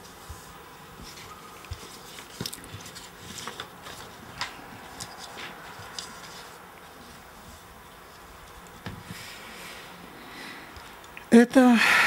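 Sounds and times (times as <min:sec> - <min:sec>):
paper rustling: 0:00.0 - 0:09.8.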